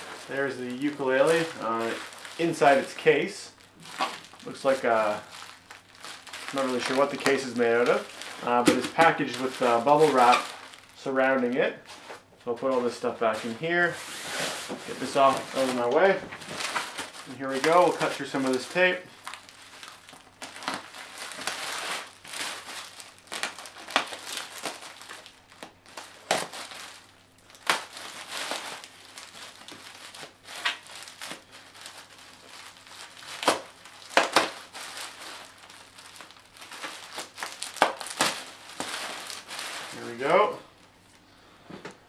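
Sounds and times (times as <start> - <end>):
bubble wrap crinkling and crackling: 0.0 - 41.2.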